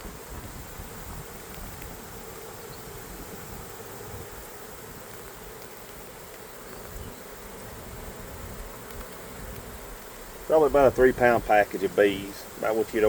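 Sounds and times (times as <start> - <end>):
swarm of bees buzzing: 0.0 - 13.0.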